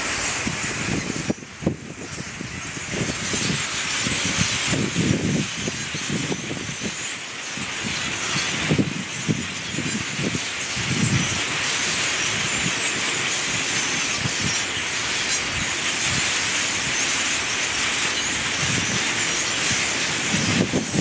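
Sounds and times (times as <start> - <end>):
flock of birds chattering: 2.0 - 21.0.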